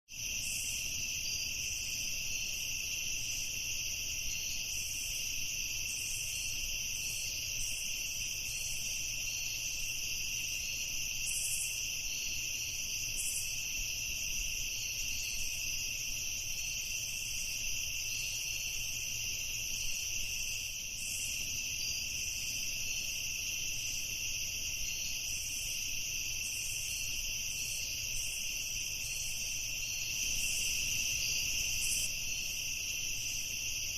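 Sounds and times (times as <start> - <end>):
crickets chirping: 0.1 - 33.9
fast pulsing insect trill: 0.1 - 33.9.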